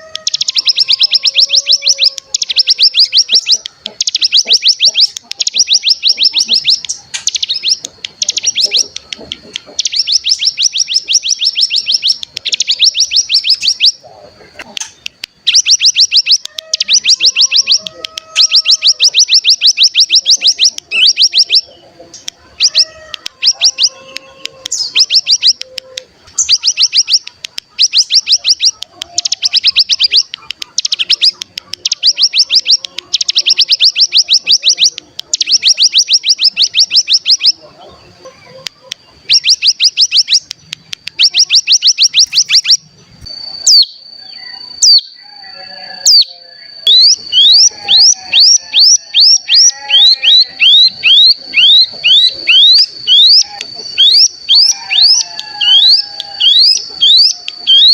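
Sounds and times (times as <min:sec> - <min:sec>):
bird singing buzzy trills: 0:00.0 - 0:57.9.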